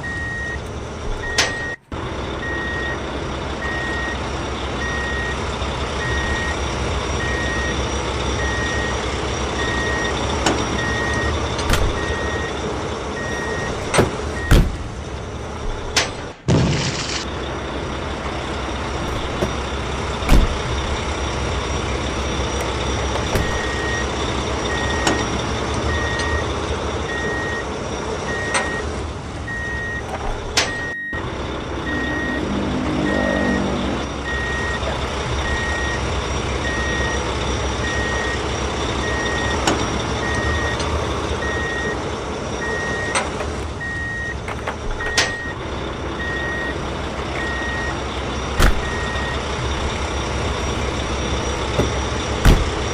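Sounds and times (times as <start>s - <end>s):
engine rumble: 0.0s - 52.9s
truck reversing alarm beeping: 0.0s - 52.9s.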